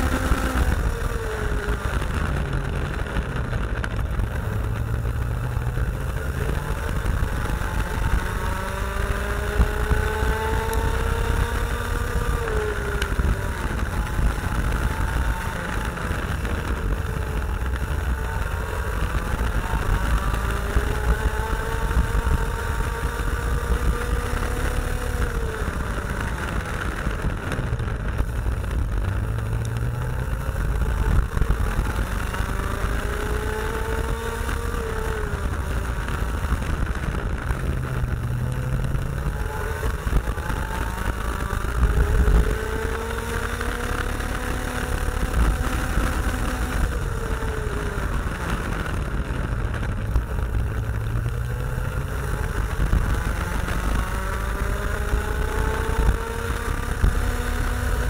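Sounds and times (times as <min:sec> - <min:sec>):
two-stroke kart engine revving: 0:00.0 - 0:58.0.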